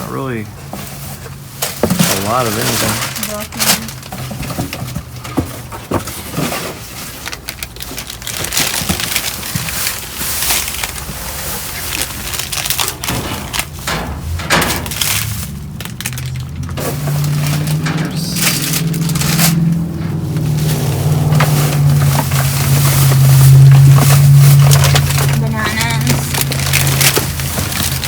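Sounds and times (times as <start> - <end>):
rummaging through trash: 0.0 - 28.0.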